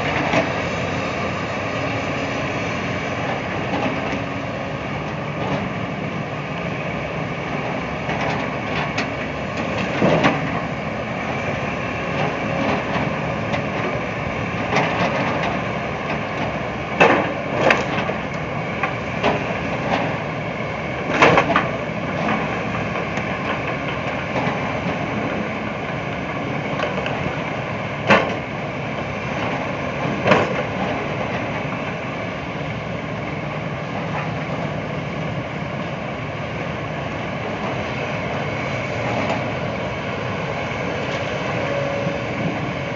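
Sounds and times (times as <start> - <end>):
diesel excavator running: 0.0 - 42.9.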